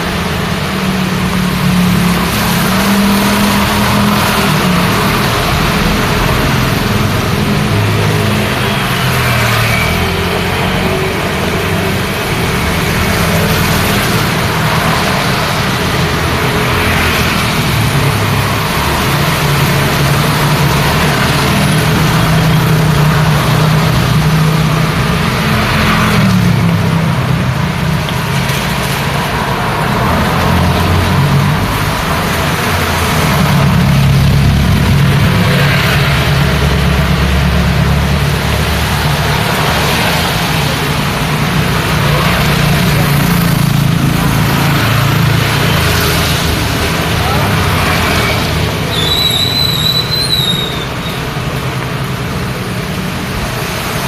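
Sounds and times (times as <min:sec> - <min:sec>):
cars and motorbikes passing: 0:00.0 - 0:54.0
rain and wet tyres hiss: 0:00.0 - 0:54.0.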